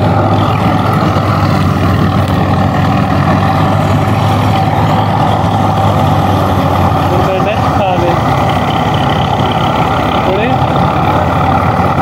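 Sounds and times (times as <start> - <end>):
threshing drum spinning: 0.0 - 12.0
tractor engine drone: 0.0 - 12.0.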